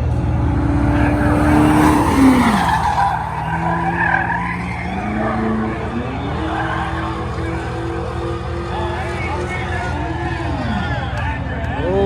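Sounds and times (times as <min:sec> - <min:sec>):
car engine revving: 0:00.0 - 0:11.7
tires squealing: 0:00.0 - 0:11.8.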